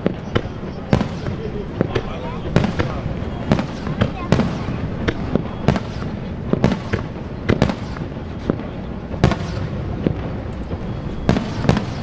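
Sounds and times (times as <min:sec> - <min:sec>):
continuous low rumble: 0:00.0 - 0:12.0
firework shells bursting: 0:00.0 - 0:12.0.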